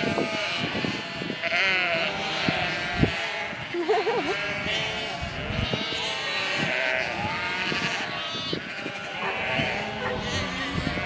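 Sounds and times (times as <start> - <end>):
sheep bleating: 0.0 - 11.0.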